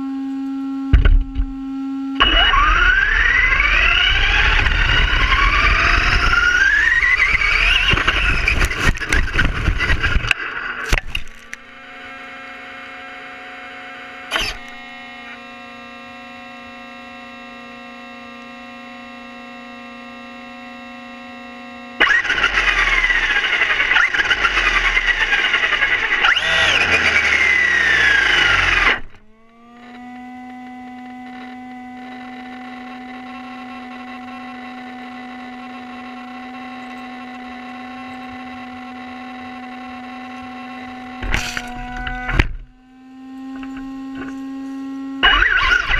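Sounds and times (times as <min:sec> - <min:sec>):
electric motor whining: 0:00.0 - 0:45.9.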